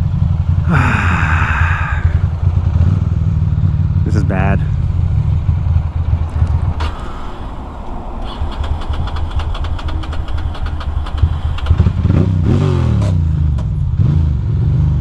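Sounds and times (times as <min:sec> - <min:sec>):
motorcycle engine running: 0:00.0 - 0:07.6, 0:08.3 - 0:15.0.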